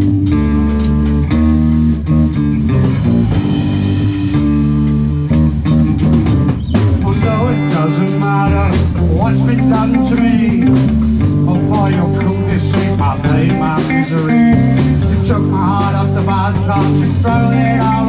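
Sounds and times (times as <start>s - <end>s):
bass guitar: 0.0s - 18.0s
drum kit beat: 0.0s - 18.0s
electric guitar: 0.0s - 18.0s
lead guitar with bent notes: 0.0s - 18.0s.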